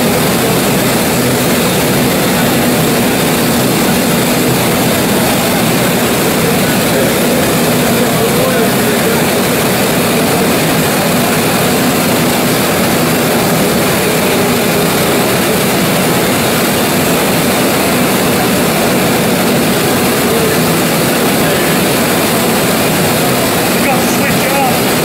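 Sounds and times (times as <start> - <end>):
oil engine running: 0.0 - 25.0.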